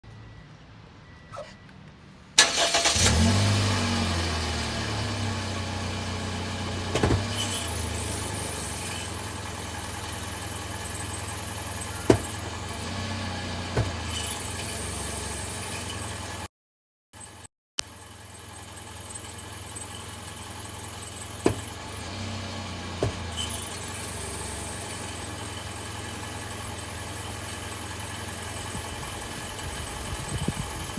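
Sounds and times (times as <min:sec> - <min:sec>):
car engine starting and idling: 0:01.0 - 0:16.5, 0:17.8 - 0:30.9.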